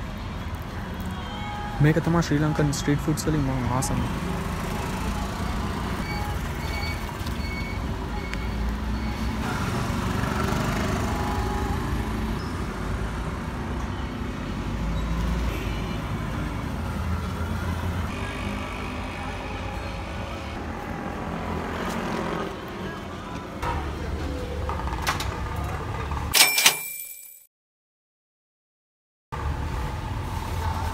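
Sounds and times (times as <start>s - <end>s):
passing vehicles rumbling: 0.0s - 26.3s, 29.4s - 30.9s.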